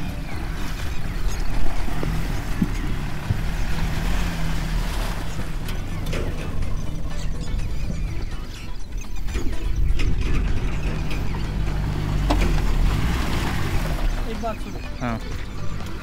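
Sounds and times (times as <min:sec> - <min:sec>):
car engine running: 0:00.0 - 0:16.0
wind buffeting microphone: 0:00.0 - 0:16.0.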